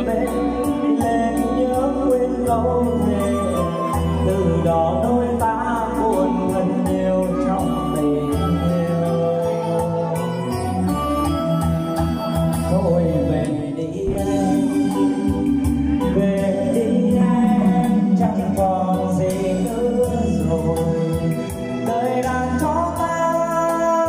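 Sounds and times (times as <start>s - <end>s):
backing music: 0.0s - 24.0s
man singing into a microphone: 0.0s - 24.0s.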